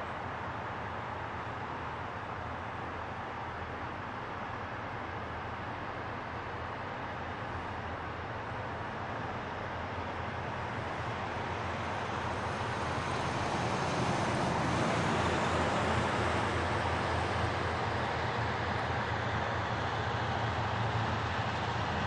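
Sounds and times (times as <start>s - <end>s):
diesel locomotive engine running: 0.0s - 22.0s.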